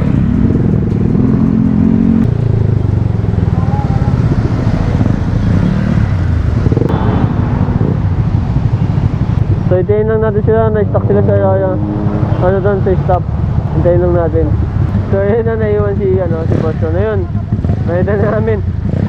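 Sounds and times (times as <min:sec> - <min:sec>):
loud motorcycle engine: 0:00.0 - 0:19.0.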